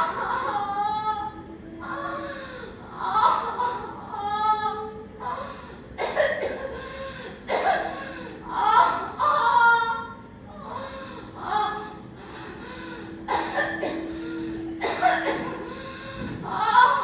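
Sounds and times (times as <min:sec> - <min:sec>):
woman wailing in pain: 0:00.0 - 0:05.6, 0:06.6 - 0:17.0.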